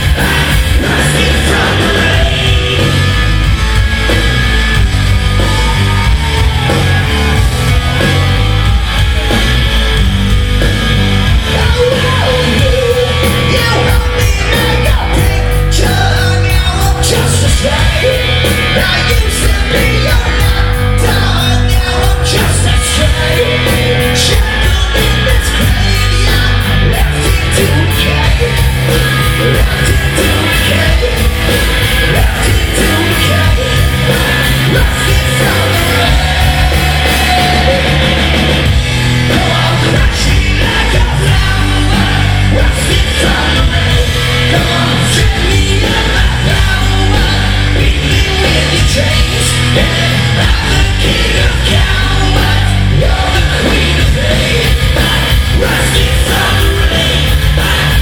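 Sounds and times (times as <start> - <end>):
singer shouting: 0.0 - 3.2, 5.2 - 9.5, 11.3 - 58.0
punk rock band playing: 0.0 - 58.0.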